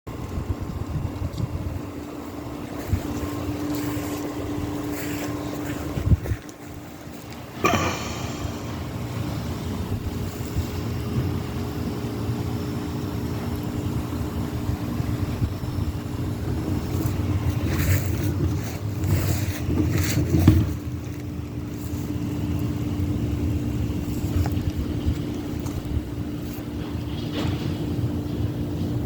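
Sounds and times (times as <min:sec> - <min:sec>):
diesel engine idling: 0:00.5 - 0:27.2.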